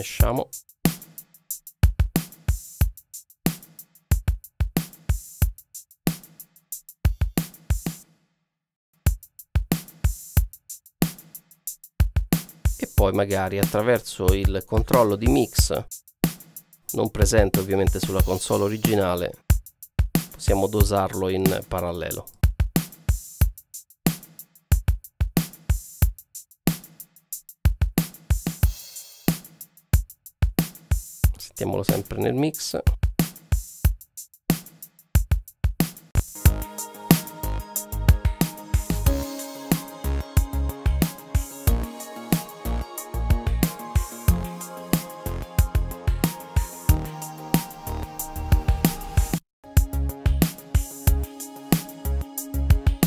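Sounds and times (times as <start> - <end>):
compressed drum loop: 0.0 - 1.2, 1.8 - 5.8, 7.1 - 8.0, 9.1 - 11.4, 12.0 - 23.6, 27.7 - 53.0.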